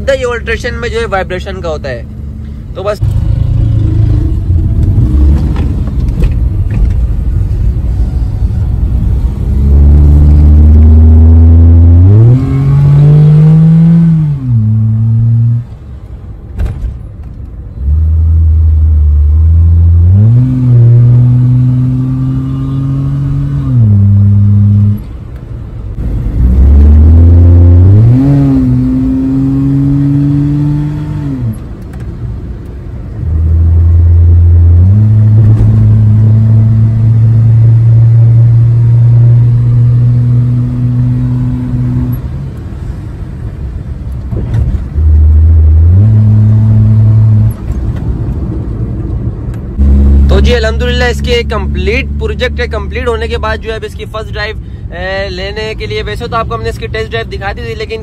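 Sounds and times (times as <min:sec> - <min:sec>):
car engine accelerating: 0:02.2 - 0:15.8, 0:17.8 - 0:25.1, 0:25.9 - 0:32.0, 0:33.1 - 0:43.5, 0:44.1 - 0:53.4.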